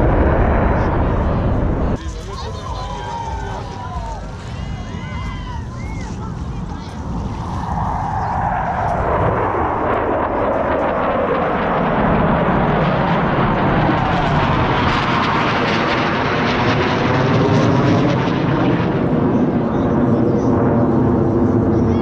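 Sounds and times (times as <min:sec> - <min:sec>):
jet passing overhead: 0:00.0 - 0:22.0.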